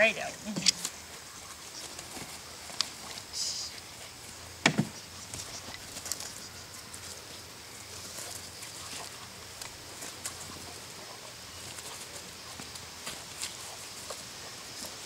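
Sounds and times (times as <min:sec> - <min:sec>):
puppy running through grass: 0:00.3 - 0:15.0.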